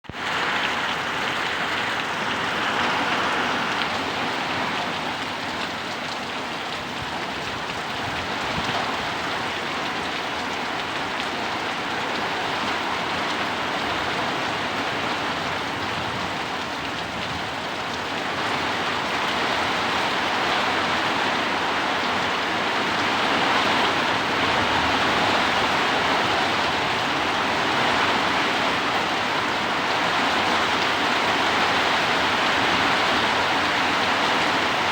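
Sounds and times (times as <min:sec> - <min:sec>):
strong wind: 0:00.0 - 0:09.7, 0:12.3 - 0:34.9
heavy rain pouring: 0:00.0 - 0:34.9.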